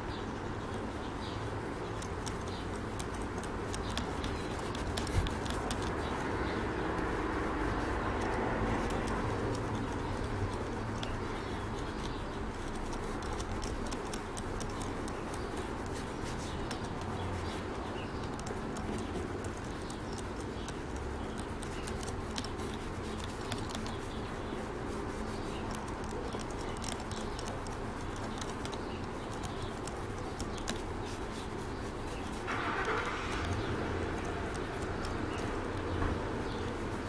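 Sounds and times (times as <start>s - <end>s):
cotton ball rubbing leather: 0.8s - 37.0s.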